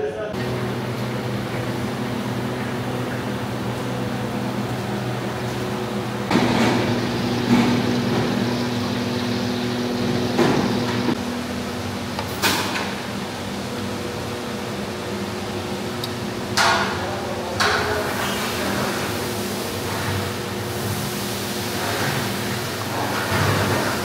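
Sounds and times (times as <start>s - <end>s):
kitchen machine hum: 0.2s - 24.0s.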